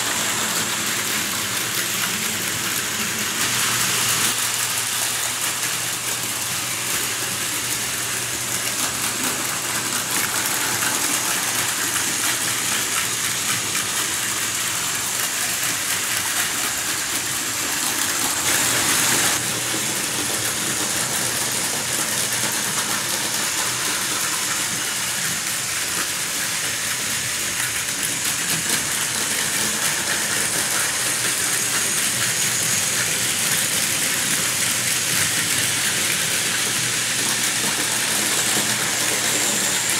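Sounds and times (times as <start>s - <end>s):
toy trains whirring and rattling: 0.0s - 39.9s.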